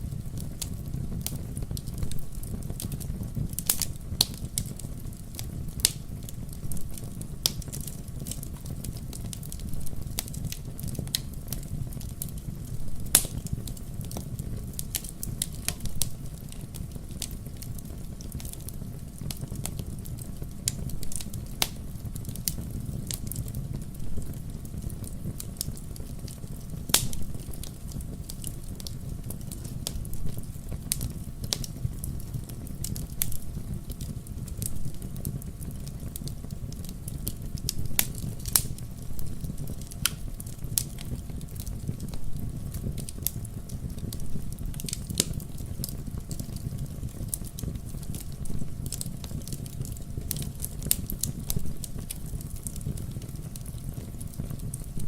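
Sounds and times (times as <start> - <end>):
logs crackling and popping: 0.0 - 55.0
low rumble of flames: 0.0 - 55.0.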